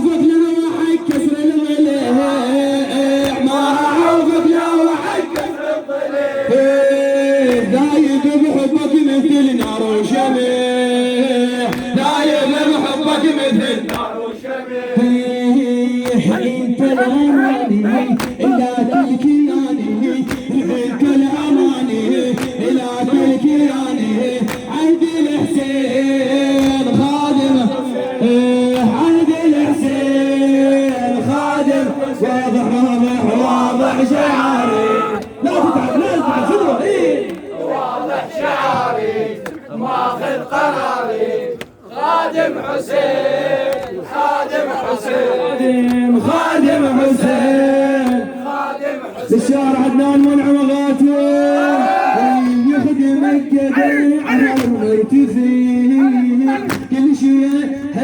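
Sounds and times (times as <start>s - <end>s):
men chanting in unison: 0.0s - 58.0s.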